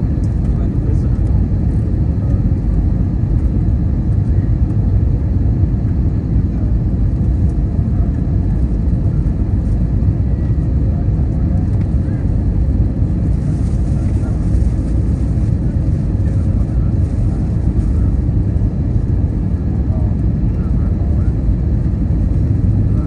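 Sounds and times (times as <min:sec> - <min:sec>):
airliner cabin engine rumble: 0:00.0 - 0:23.0.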